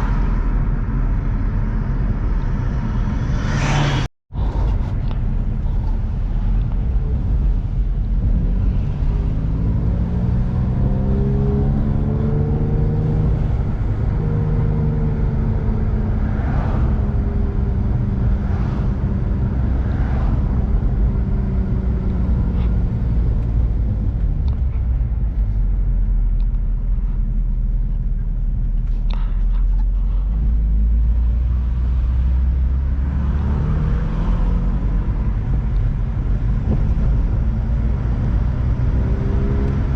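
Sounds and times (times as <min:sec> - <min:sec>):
car engine: 0:00.0 - 0:39.9
low road rumble: 0:00.0 - 0:39.9.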